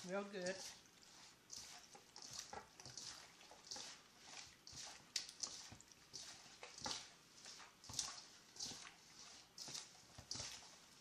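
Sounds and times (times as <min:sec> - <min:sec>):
wet squelching of chicken: 0:00.0 - 0:11.0.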